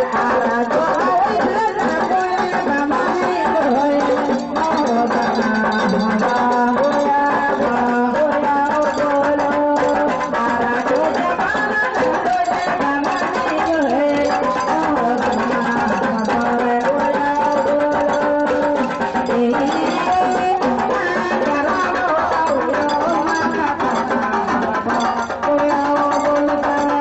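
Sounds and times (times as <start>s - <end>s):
drumming: 0.0s - 27.0s
live festival music: 0.0s - 27.0s.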